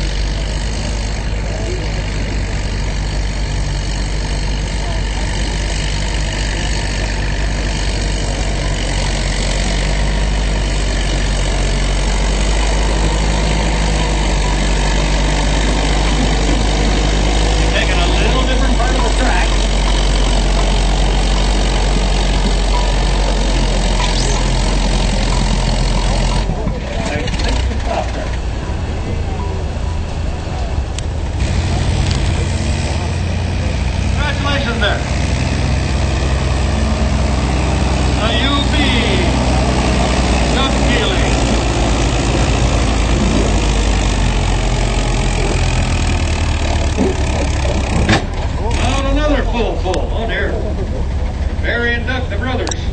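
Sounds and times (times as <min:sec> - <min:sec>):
tractor engine running loud: 0:00.0 - 0:52.9.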